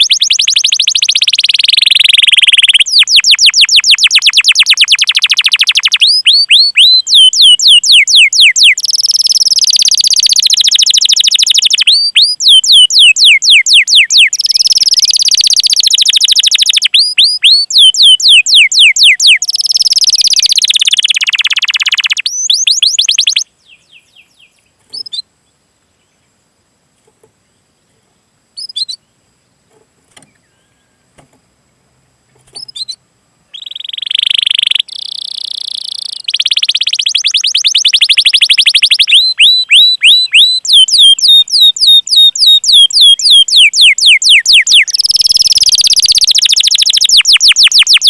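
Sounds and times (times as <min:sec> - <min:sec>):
canary singing trills: 0:00.0 - 0:25.3, 0:28.6 - 0:29.2, 0:32.4 - 0:48.0.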